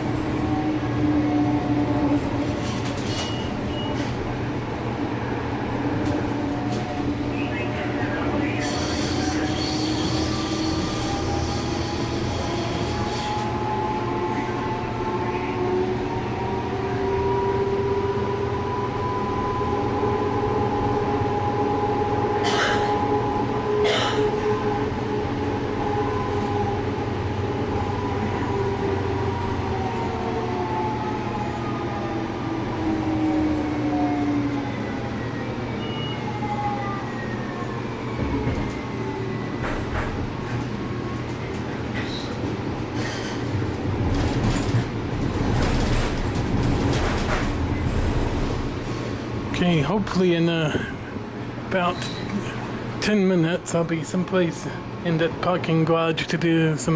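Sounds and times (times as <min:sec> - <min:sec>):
train wheels rumbling on rails: 0:00.0 - 0:36.6, 0:37.4 - 0:56.9.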